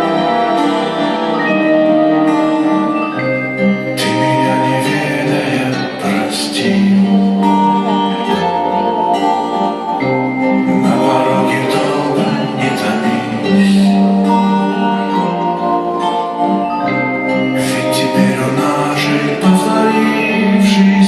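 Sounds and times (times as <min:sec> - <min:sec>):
guitar: 0:00.0 - 0:21.0
live band playing slow song: 0:00.0 - 0:21.0.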